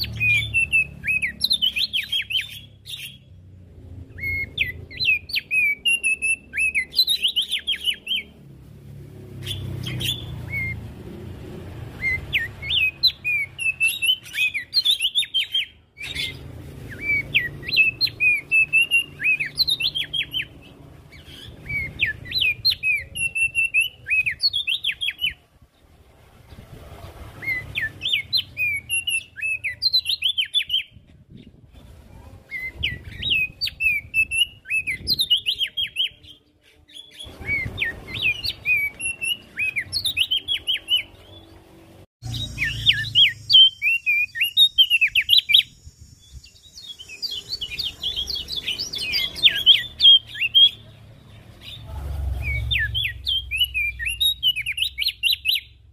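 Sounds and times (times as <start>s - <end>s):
bird chirping song: 0.0s - 55.9s.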